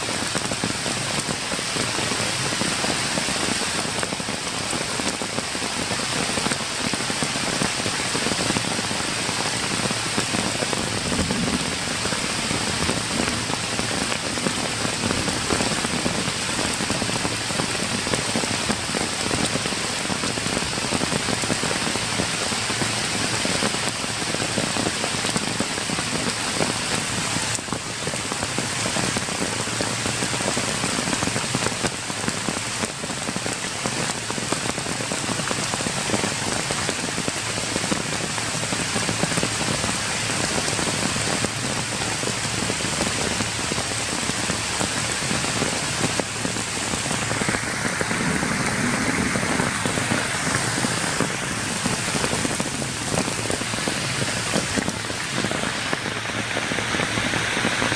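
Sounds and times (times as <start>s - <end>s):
rain on wet ground: 0.0s - 57.9s.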